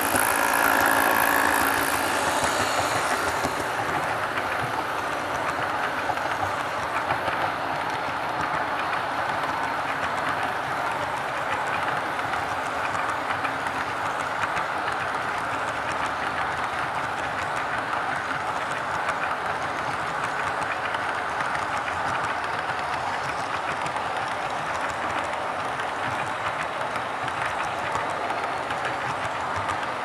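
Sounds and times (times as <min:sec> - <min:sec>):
model train wheels hissing on rails: 0:00.0 - 0:30.0.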